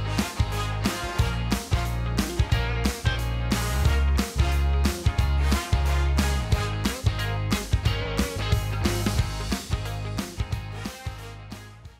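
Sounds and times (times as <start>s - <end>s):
upbeat guitar music with beat: 0.0s - 11.9s.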